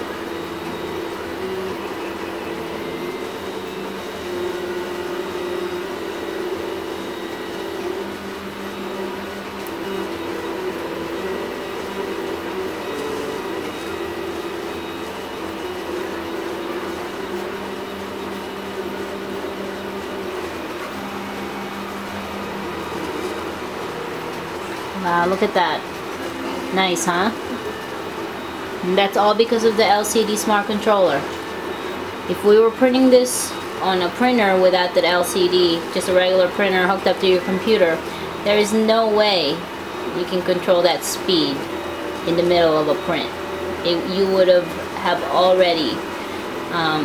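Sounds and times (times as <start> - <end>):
stepper motors whining: 0.0 - 47.0.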